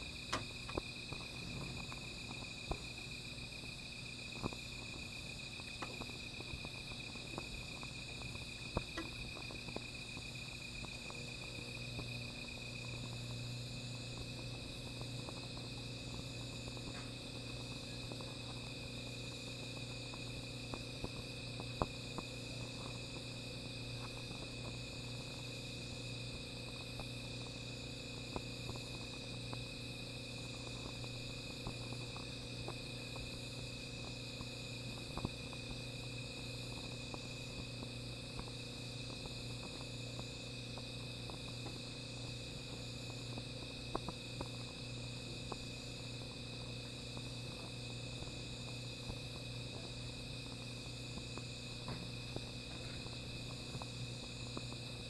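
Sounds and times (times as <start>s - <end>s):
crickets trilling: 0.0s - 55.0s
fire popping and crackling: 0.1s - 29.7s, 30.3s - 49.2s.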